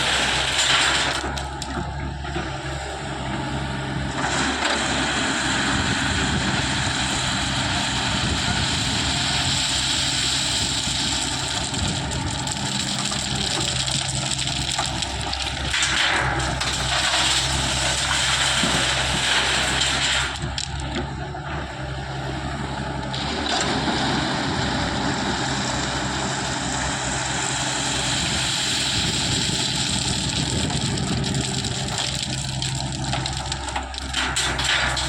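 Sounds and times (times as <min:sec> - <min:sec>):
backhoe diesel engine running: 0:00.0 - 0:35.0.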